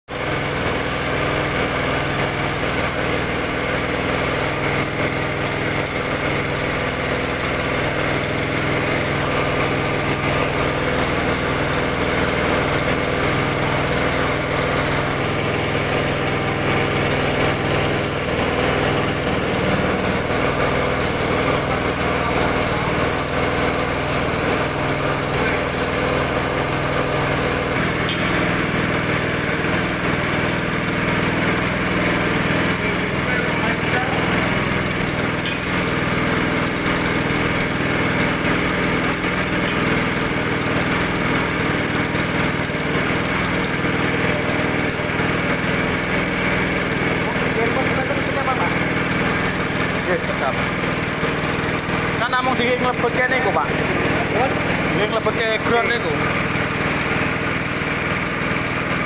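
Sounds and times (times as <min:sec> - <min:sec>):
small engine running: 0:00.1 - 0:59.0.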